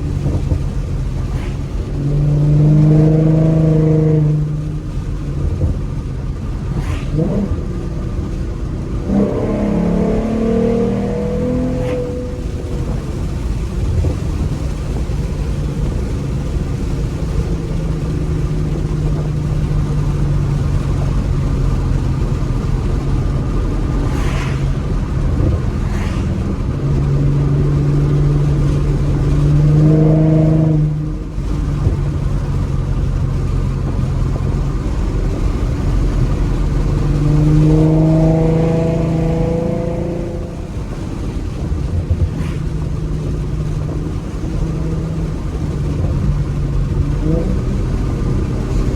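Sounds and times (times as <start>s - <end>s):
car exhaust under acceleration: 0.0s - 48.9s
sharp exhaust cracks: 0.0s - 48.9s.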